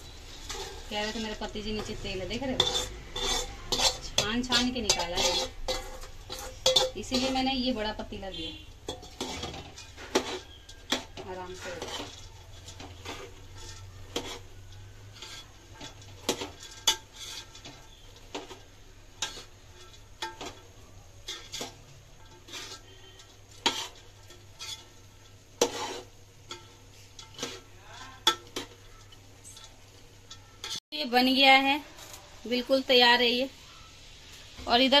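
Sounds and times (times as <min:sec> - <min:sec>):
metal spoon scraping a pot: 0:00.0 - 0:30.8, 0:31.8 - 0:32.9.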